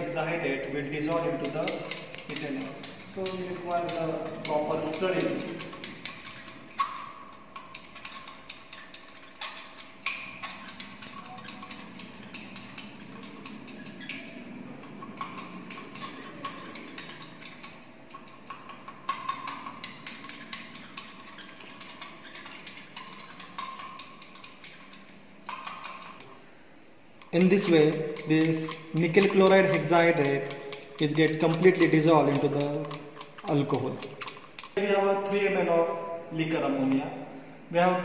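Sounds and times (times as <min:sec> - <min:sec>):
glass rod clinking in beaker: 0:01.0 - 0:26.4, 0:27.2 - 0:34.8.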